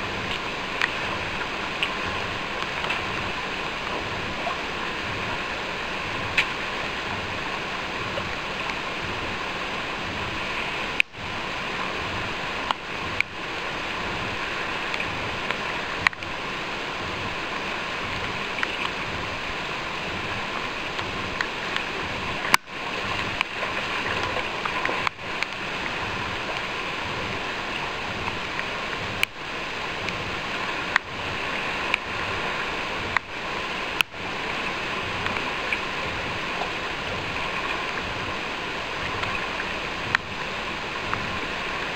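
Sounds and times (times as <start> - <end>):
fast river water rushing: 0.0 - 41.9.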